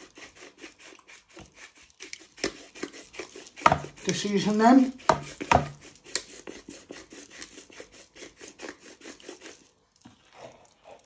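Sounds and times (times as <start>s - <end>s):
pepper mill grinding: 0.0s - 10.1s.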